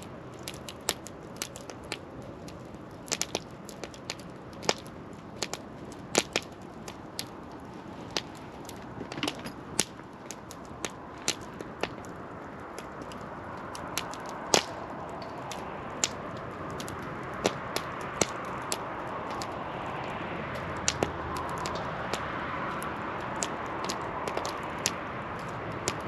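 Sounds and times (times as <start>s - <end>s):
campfire crackling and popping: 0.0s - 26.0s
steady rushing hiss: 0.0s - 26.0s.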